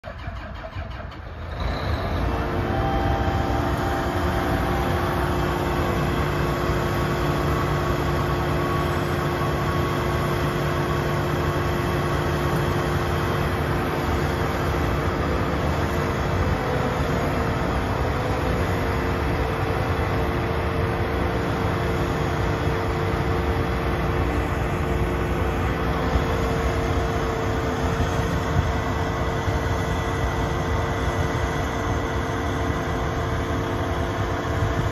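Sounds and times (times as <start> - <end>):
combine harvester engine running: 0.0 - 34.9.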